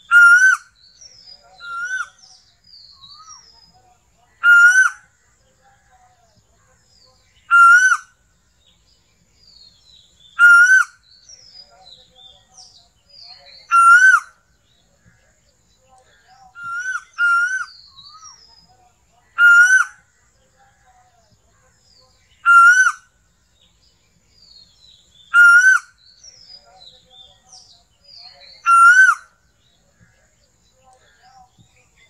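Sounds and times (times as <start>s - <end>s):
other birds chirping: 0.0s - 32.0s.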